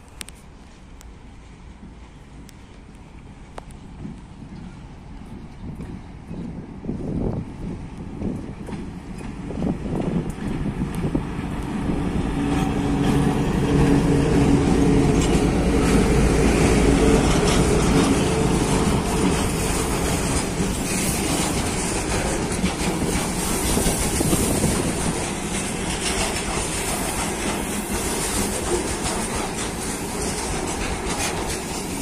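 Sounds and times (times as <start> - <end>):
electric locomotive humming: 0.0 - 32.0
train wheels clacking over rail joints: 1.8 - 32.0.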